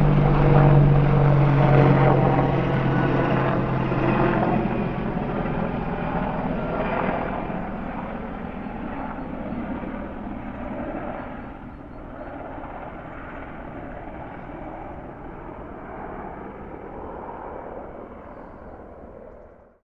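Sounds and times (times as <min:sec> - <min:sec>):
helicopter flying away: 0:00.0 - 0:19.8.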